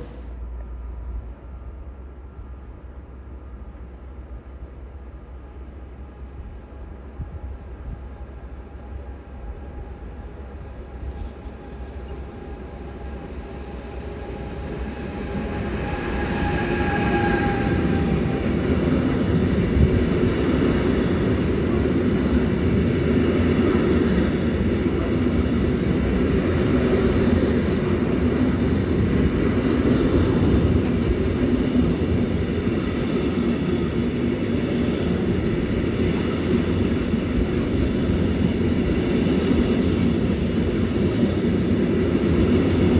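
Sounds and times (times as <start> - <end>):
freight train passing: 0.0 - 42.9.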